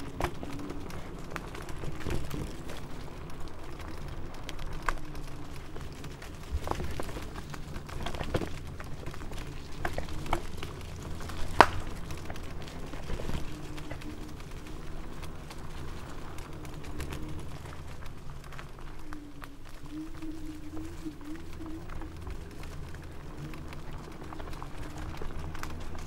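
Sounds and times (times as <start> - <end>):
scooter tyres and wind rumble: 0.0 - 26.0.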